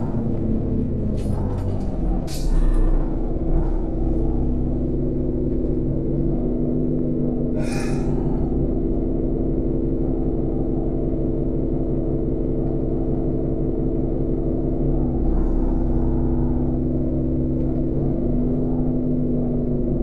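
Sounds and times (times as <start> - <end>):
bus engine humming: 0.0 - 20.0.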